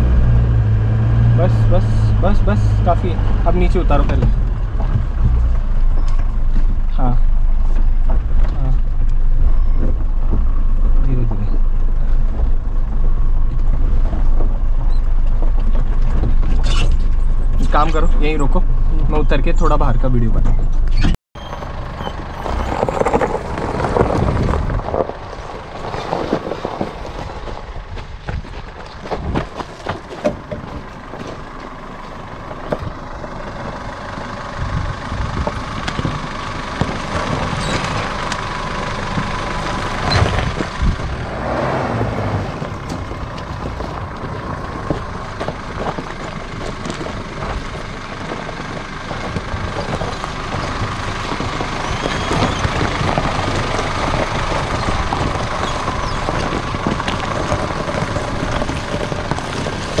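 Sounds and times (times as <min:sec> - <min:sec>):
diesel engine pulling uphill: 0:00.0 - 1:00.0
tyres crunching over stones: 0:02.2 - 0:20.8, 0:21.4 - 1:00.0.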